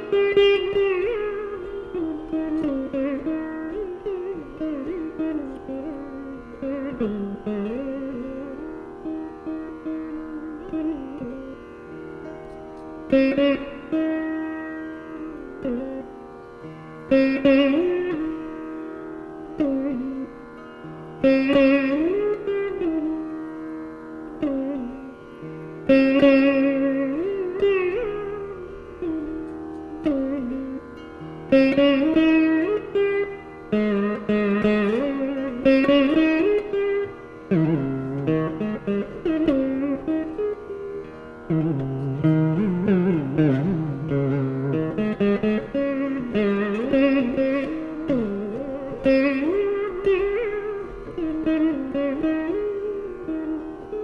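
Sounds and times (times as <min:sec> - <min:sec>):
plucked string melody: 0:00.0 - 0:54.0.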